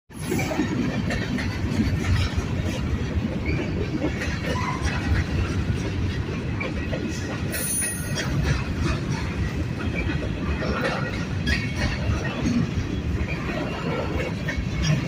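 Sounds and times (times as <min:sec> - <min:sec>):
train wheels clacking: 0:00.1 - 0:15.0
train wheels rumbling on rail: 0:00.1 - 0:15.0.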